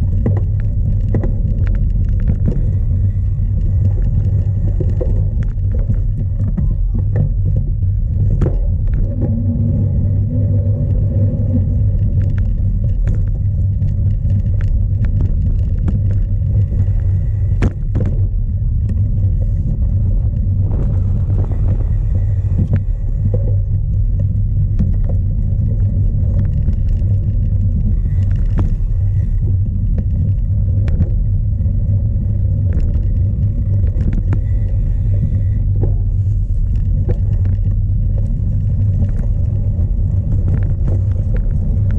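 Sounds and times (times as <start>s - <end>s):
bike rattling over rough ground: 0.0s - 41.9s
wind buffeting microphone: 0.0s - 41.9s.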